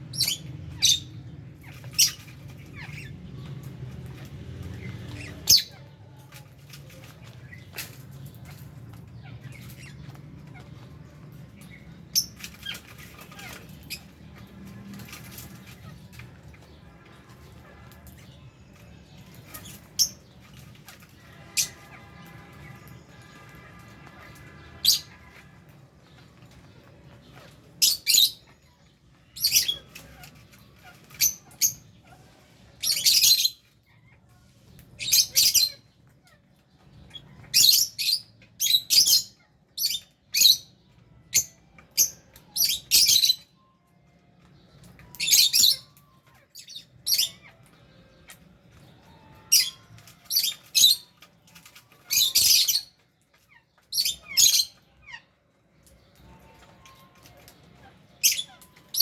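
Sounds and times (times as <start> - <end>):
birds squawking and chirping: 0.0 - 59.0.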